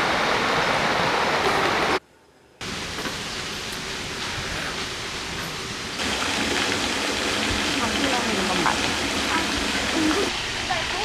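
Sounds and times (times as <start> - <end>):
rushing water: 0.0 - 2.0, 2.6 - 11.0.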